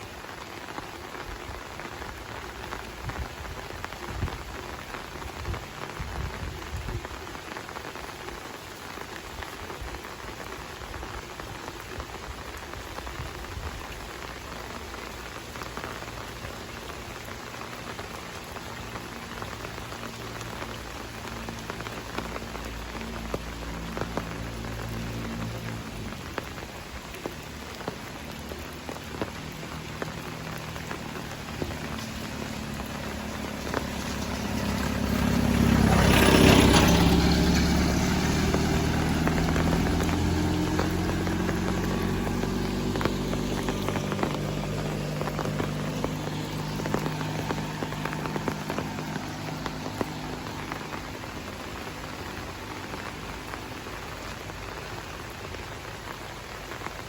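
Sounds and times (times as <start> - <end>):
raindrop clicks: 0.0 - 57.0
steady rain falling: 0.0 - 57.0
vehicle passing on wet road: 0.0 - 57.0.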